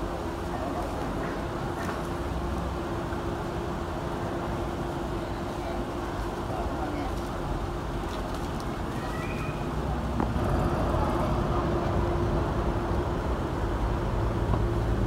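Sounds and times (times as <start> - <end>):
engine hum: 0.0 - 15.0
road rumble: 0.0 - 15.0.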